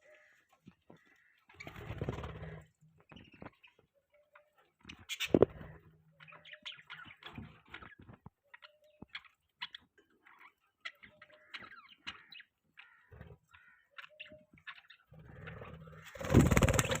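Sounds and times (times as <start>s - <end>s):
budgies chirping: 0.0s - 17.0s.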